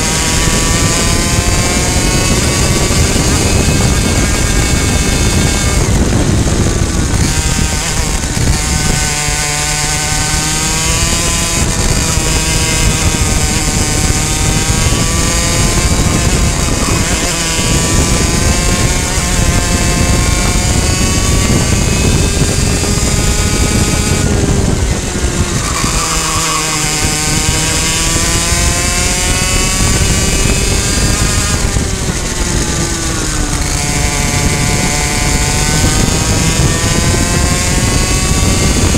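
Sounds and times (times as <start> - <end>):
kart engine at high revs: 0.0 - 38.9
wind rush: 0.0 - 38.9.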